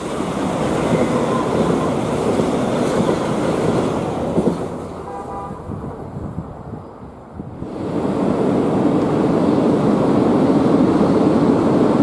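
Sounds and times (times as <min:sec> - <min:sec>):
train wheels and running gear rumble: 0:00.0 - 0:12.0.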